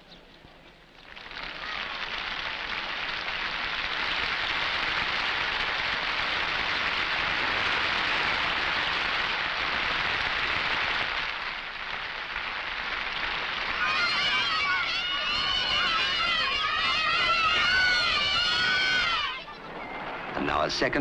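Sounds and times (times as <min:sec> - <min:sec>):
crowd applauding: 0:01.0 - 0:21.0.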